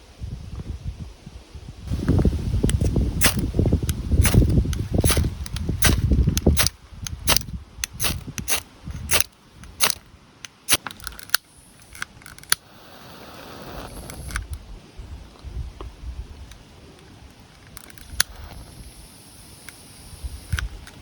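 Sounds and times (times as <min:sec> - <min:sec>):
soft rushing hiss: 0:00.0 - 0:21.0.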